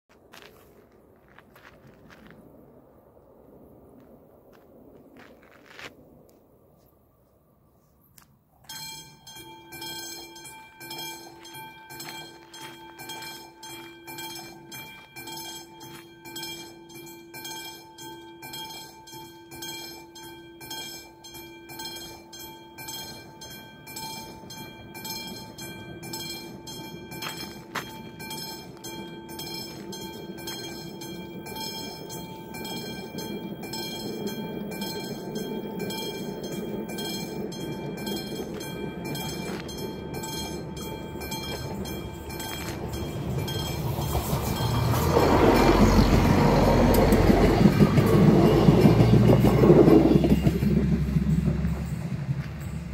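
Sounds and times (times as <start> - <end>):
train rumble: 0.1 - 52.9
level-crossing warning bell: 8.6 - 52.9.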